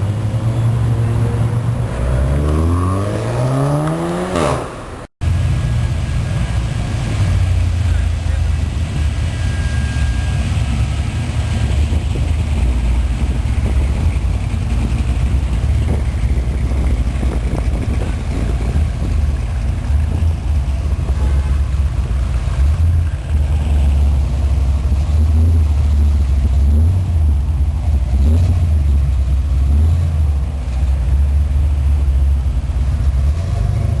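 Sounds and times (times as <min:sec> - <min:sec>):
car engines rumbling: 0:00.0 - 0:34.0.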